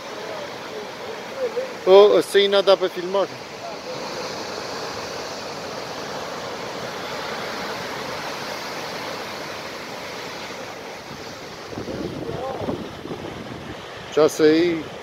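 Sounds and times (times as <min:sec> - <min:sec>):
sea surf breaking on rocks: 0:00.0 - 0:15.0.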